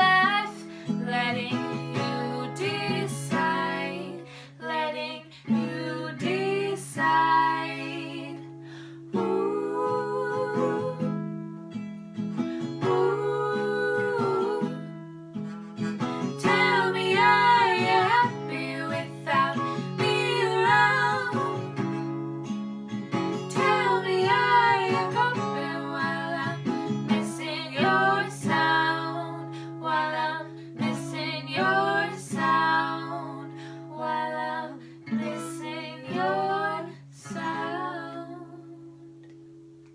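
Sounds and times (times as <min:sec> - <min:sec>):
woman singing: 0:00.0 - 0:11.3, 0:12.8 - 0:15.0, 0:16.2 - 0:21.9, 0:23.4 - 0:39.1
acoustic guitar: 0:00.0 - 0:39.9.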